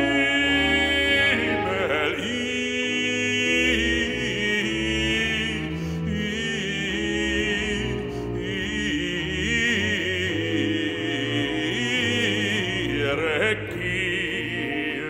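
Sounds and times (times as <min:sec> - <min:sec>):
bass singer with vibrato: 0:00.0 - 0:15.0
sustained bowed strings: 0:00.0 - 0:15.0.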